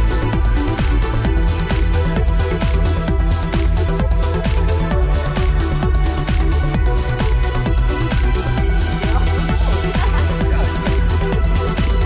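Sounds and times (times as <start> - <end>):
electronic trance music: 0.0 - 12.0.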